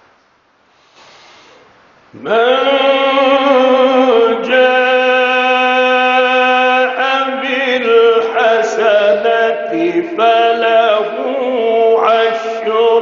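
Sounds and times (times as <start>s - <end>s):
man chanting: 2.2s - 13.0s.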